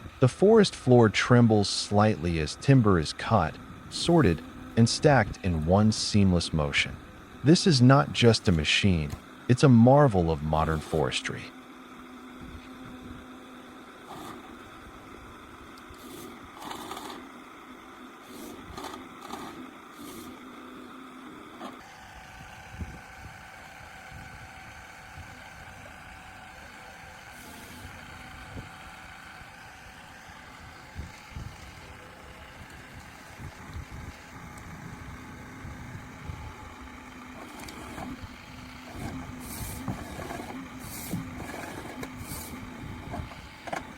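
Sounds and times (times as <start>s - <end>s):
harvester engine running: 0.0s - 43.9s.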